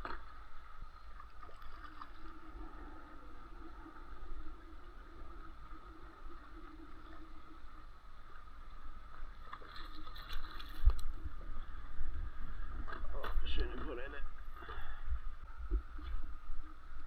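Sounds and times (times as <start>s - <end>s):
water splashing: 0.0s - 15.0s
low wind rumble: 0.0s - 17.0s
water lapping against kayak hull: 0.0s - 17.0s.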